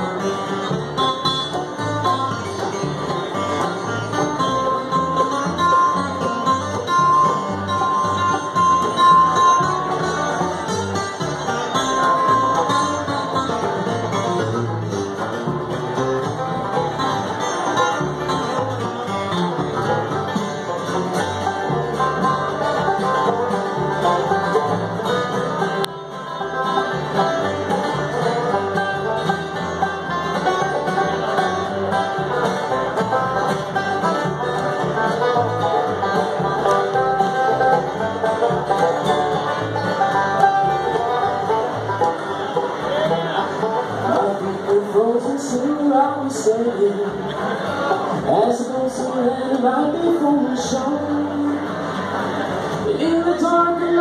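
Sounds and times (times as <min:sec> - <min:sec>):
acoustic guitar: 0:00.0 - 0:54.0
banjo: 0:00.0 - 0:54.0
fiddle: 0:00.0 - 0:54.0
upright bass: 0:00.0 - 0:54.0.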